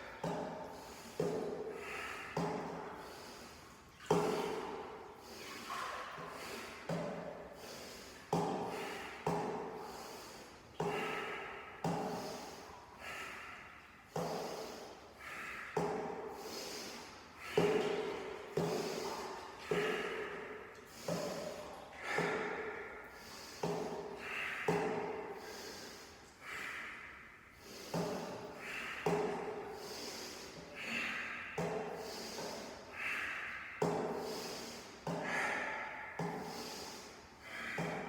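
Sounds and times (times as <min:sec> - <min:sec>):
person breathing fast and deeply: 0:00.0 - 0:38.0.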